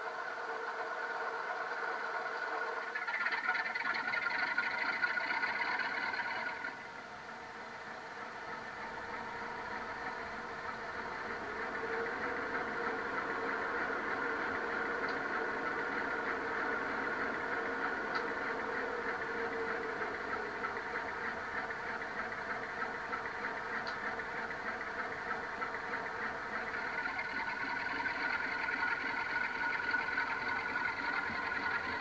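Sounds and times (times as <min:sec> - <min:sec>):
diesel engine through small speaker: 0:00.0 - 0:32.0.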